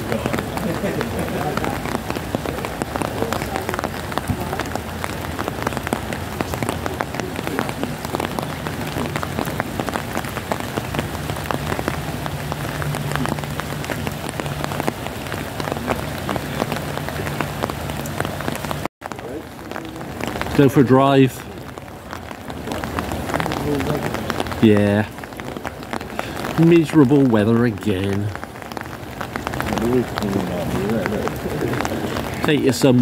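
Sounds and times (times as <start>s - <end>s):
heavy rain: 0.0s - 33.0s
raindrops striking near microphone: 0.0s - 33.0s.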